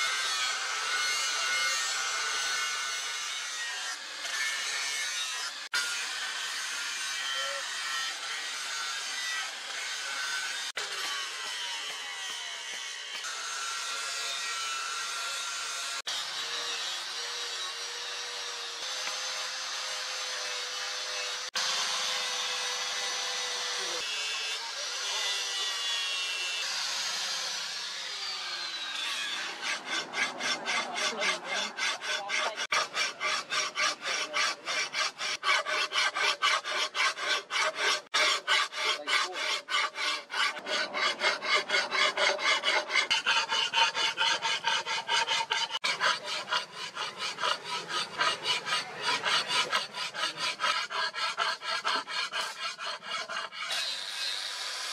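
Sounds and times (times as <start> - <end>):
hand file rasping on metal blade: 0.0 - 27.8, 29.0 - 54.6
angle grinder sanding steel: 0.0 - 54.9.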